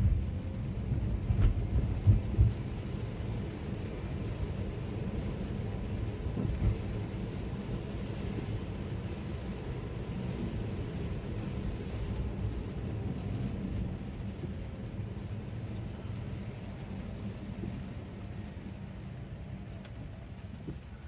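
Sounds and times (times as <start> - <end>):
road and tyre rumble: 0.0 - 21.0.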